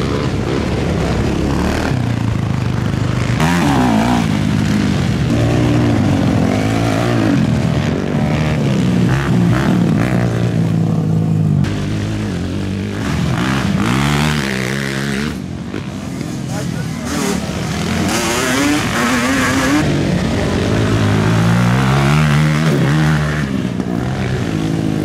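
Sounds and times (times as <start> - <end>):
atv engines revving: 0.0 - 25.0.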